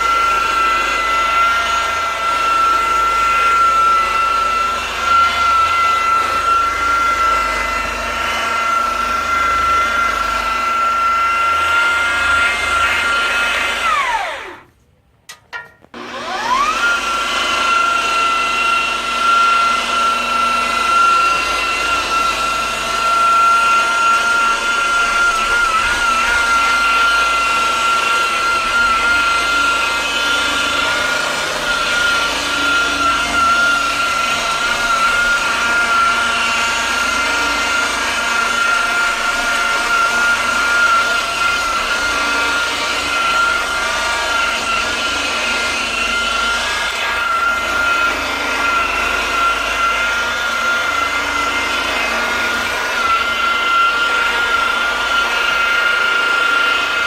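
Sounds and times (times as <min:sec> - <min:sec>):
electric power tool whining: 0:00.0 - 0:14.8, 0:15.5 - 0:57.0.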